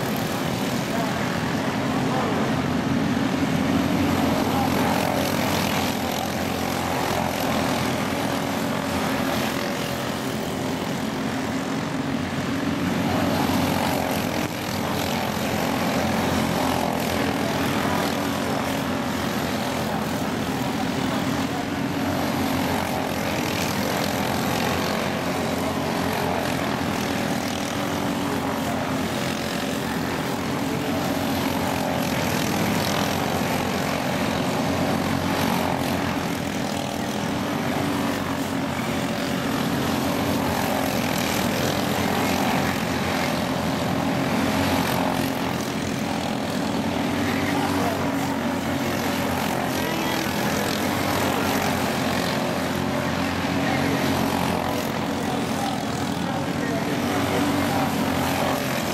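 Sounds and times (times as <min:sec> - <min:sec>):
small race car engines buzzing: 0:00.0 - 0:58.9.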